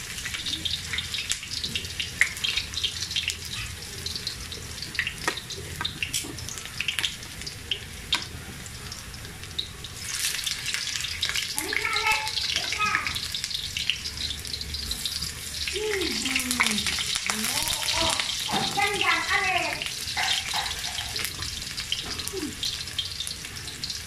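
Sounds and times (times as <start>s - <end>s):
carrots sizzling in oil: 0.0s - 24.0s.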